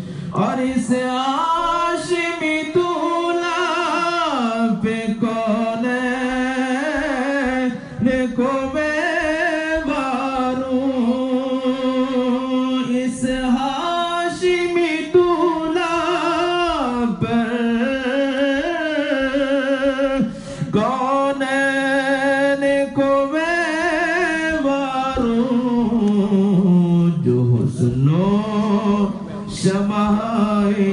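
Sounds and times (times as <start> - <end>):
man singing unaccompanied: 0.3 - 30.9.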